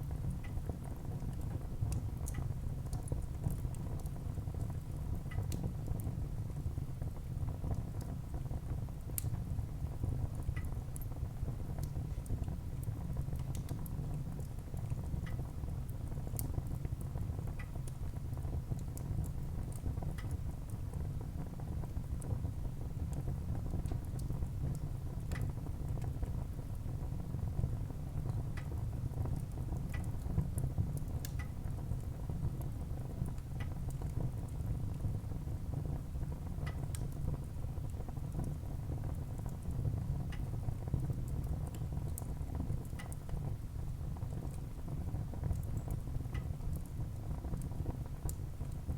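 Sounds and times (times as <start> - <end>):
fire crackling and popping: 0.0 - 48.9
fire flames rumbling: 0.1 - 48.9.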